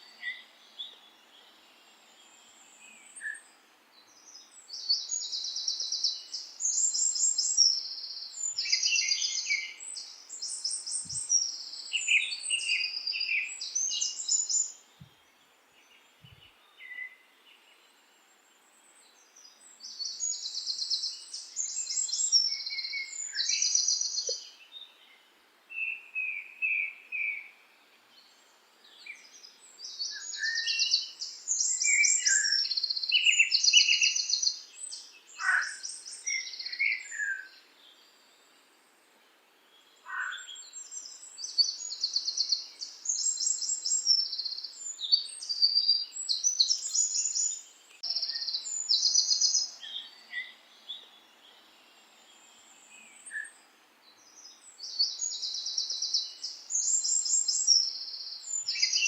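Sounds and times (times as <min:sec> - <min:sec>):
songbirds singing trilled phrases: 0:00.0 - 0:18.0, 0:18.8 - 0:38.5, 0:39.6 - 0:59.0.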